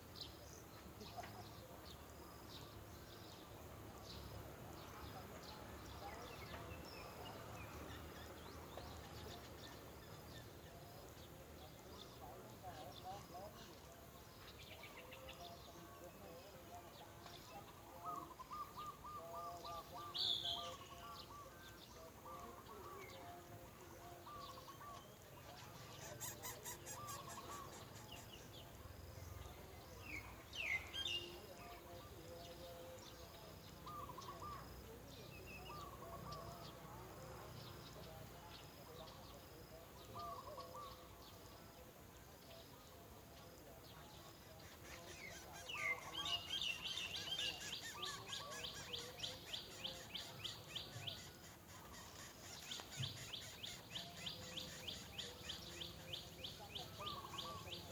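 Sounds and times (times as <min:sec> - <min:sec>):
small birds calling: 0:00.0 - 0:57.9.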